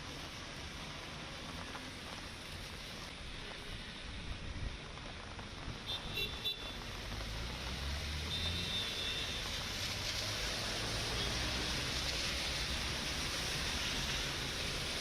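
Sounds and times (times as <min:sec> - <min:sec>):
heavy rain: 0:00.0 - 0:15.0
wet traffic: 0:00.0 - 0:15.0.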